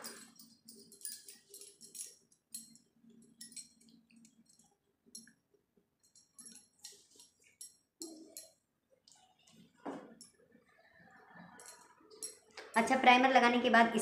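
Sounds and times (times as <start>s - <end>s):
metal bangles clinking: 0.0s - 5.4s, 6.0s - 10.5s, 11.3s - 13.0s.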